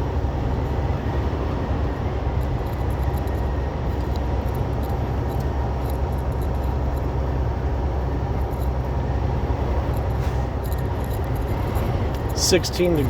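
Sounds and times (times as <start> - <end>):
road and wind noise: 0.0 - 13.0
truck diesel engine droning: 0.0 - 13.0.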